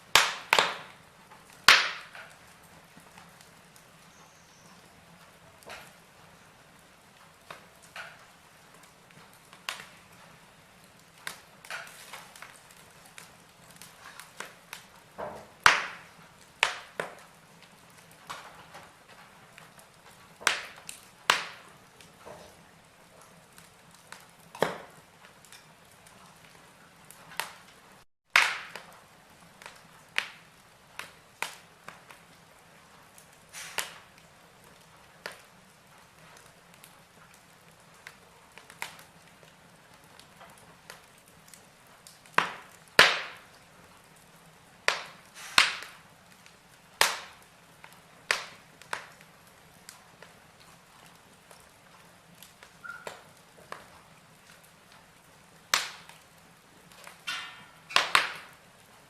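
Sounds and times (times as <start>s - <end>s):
faint steady hiss: 0.0s - 59.0s
fire popping: 0.0s - 59.0s
logs crackling in a fireplace: 0.0s - 59.0s.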